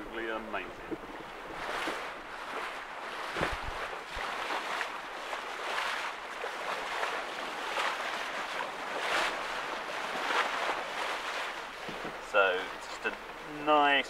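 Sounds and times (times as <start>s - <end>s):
wind buffeting microphone: 0.0s - 12.4s
water rushing along hull: 0.0s - 14.0s.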